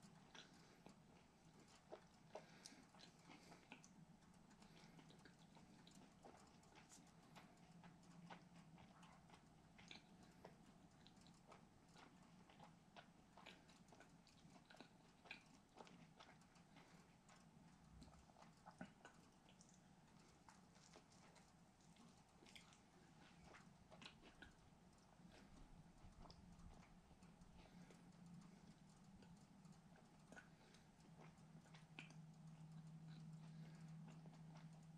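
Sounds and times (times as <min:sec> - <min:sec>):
man chewing crunchy food: 0:00.0 - 0:34.9.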